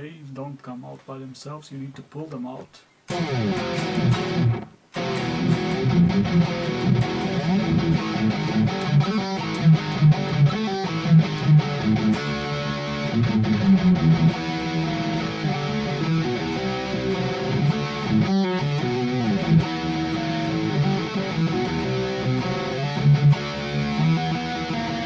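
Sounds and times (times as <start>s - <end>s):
distorted electric guitar riffing: 3.1s - 25.0s.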